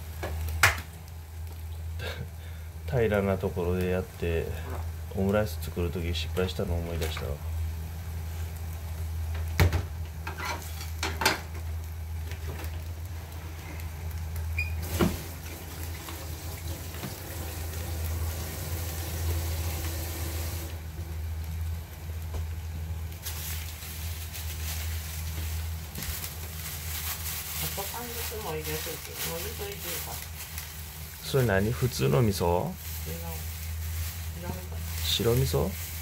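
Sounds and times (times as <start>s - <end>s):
food frying in a pan: 0.0s - 36.0s.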